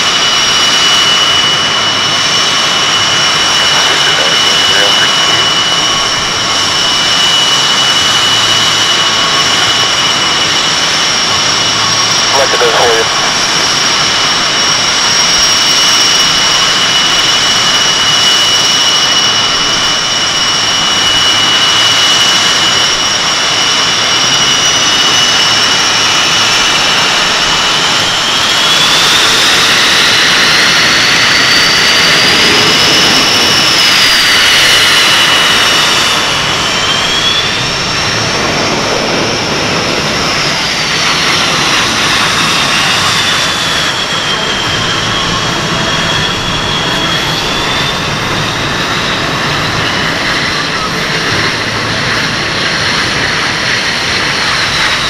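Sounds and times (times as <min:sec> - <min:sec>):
engine whine changing pitch: 0:00.0 - 0:55.0
jet engines whining: 0:00.0 - 0:55.0.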